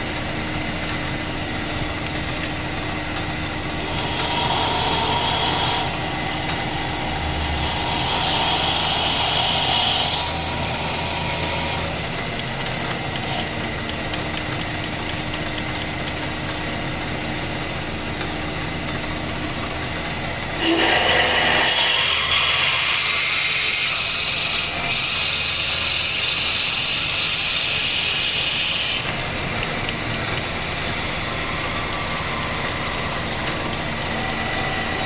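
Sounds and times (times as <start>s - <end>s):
small motor humming: 0.0s - 35.0s.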